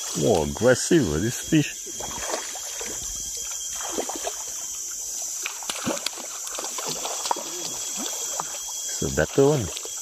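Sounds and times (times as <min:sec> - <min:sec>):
steady background hiss: 0:00.0 - 0:10.0
fish splashing in water: 0:01.6 - 0:10.0.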